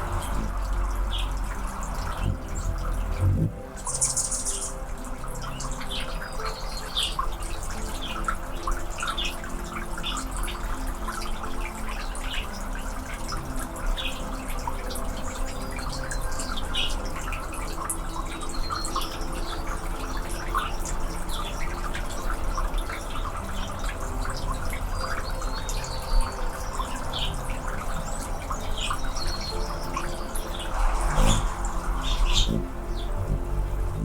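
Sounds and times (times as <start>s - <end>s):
hummingbirds chirping: 0.0s - 34.0s.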